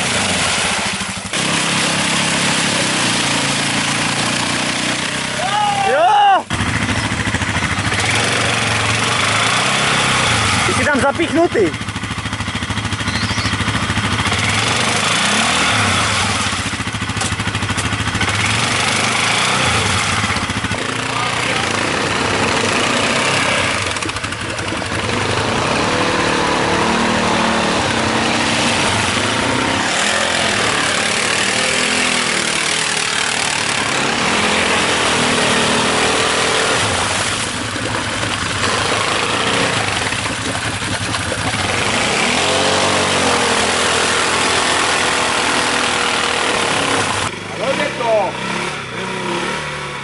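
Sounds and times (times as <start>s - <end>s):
engine revving: 0.0s - 5.9s, 6.5s - 50.0s.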